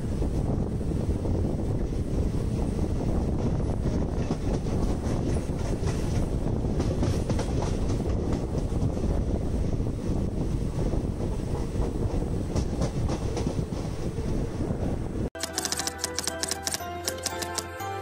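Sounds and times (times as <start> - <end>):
train wheels rumbling on rails: 0.0 - 16.3.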